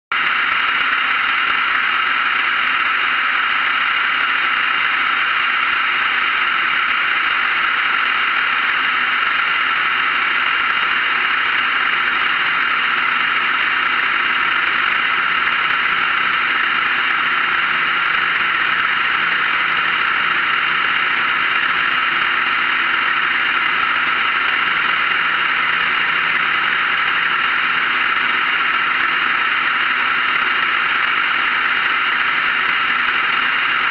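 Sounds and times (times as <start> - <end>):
propeller aircraft engine drone: 0.1 - 33.9.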